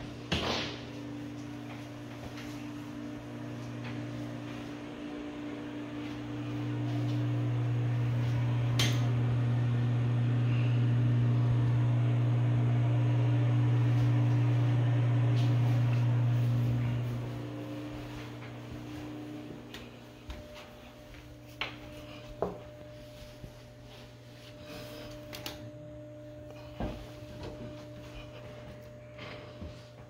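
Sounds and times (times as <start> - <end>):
exhaust fan motor humming: 0.0 - 30.0.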